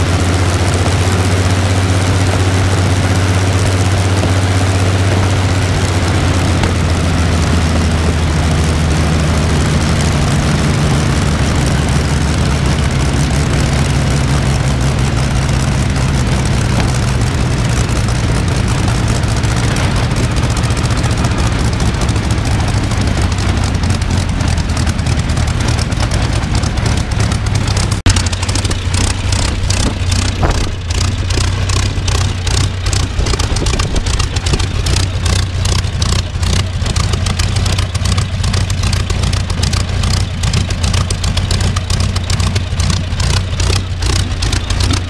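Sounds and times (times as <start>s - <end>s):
aero engine running: 0.0s - 45.0s.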